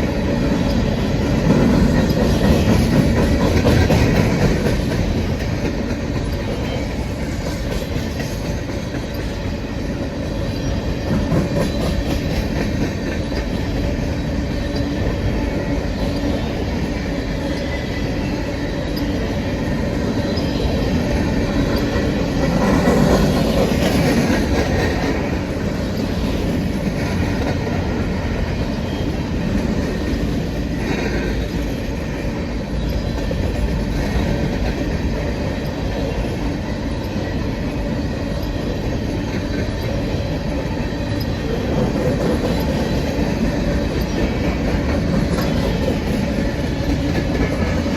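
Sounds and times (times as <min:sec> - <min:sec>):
train wheels rumbling on rails: 0:00.0 - 0:47.9
wheels clacking over rail joints: 0:00.0 - 0:47.9.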